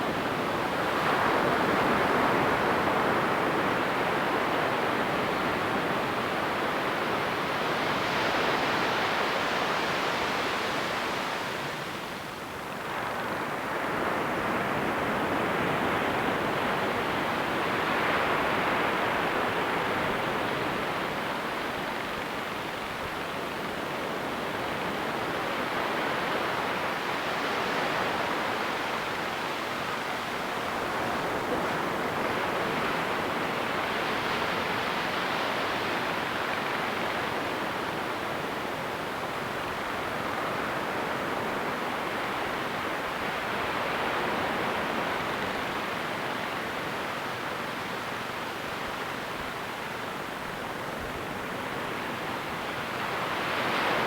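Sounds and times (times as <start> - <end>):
ocean waves on a beach: 0.0 - 54.0.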